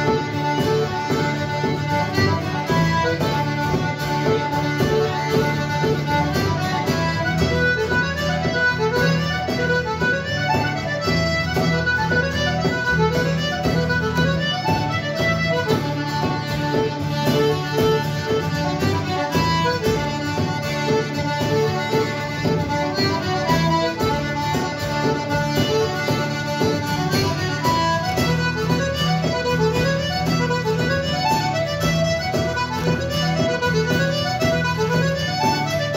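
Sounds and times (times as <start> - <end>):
acoustic guitar strumming: 0.0 - 35.9
button accordion: 0.0 - 35.9
frame drum beating: 0.0 - 35.9.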